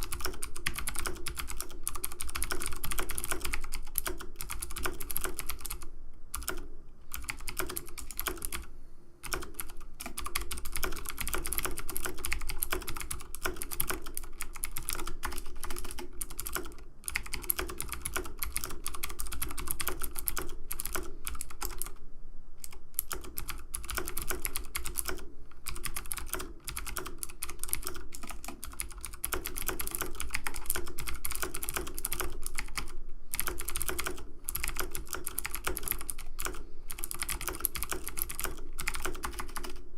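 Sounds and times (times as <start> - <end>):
fast keyboard typing: 0.0 - 22.0, 22.6 - 39.8.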